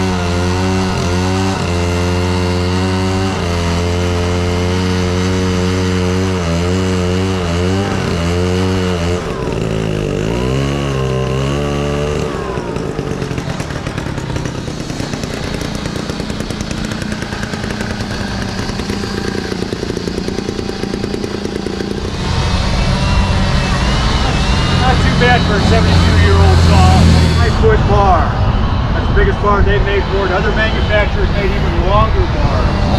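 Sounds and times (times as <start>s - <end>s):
chainsaw running: 0.0s - 32.9s.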